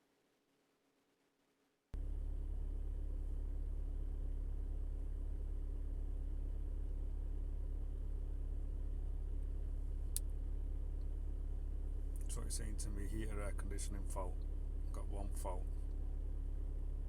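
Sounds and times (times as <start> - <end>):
diesel car engine idling: 2.0 - 17.0.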